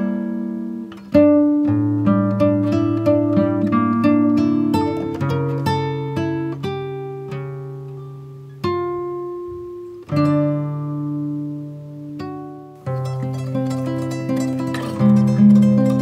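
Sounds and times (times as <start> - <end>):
plucked acoustic guitar music: 0.0 - 16.0.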